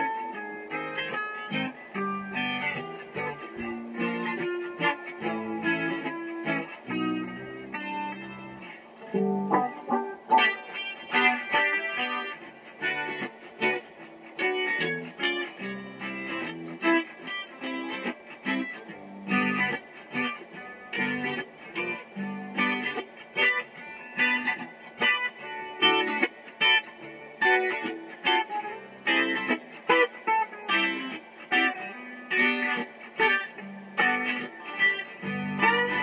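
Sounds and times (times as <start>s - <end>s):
electric guitar: 0.0s - 36.0s.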